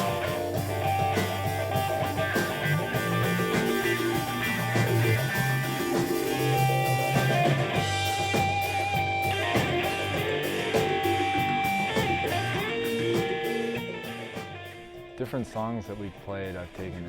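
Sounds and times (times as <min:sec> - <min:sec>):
jam-band music with electric guitar: 0:00.0 - 0:17.0.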